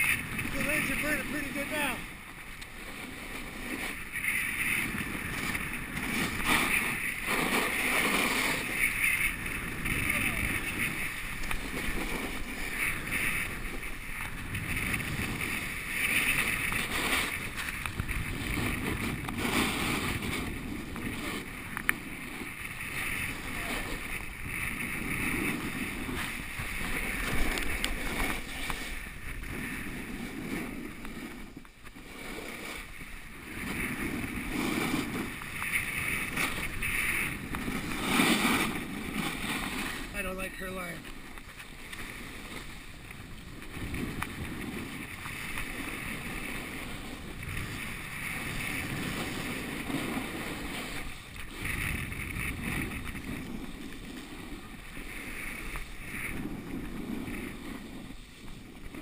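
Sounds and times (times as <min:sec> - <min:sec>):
skis scraping over snow: 0:00.0 - 0:59.0
wind buffeting microphone: 0:00.0 - 0:59.0.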